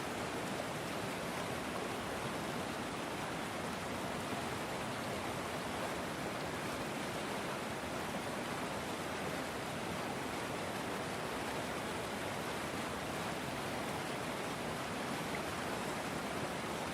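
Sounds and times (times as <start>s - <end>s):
river water flowing: 0.0s - 16.9s.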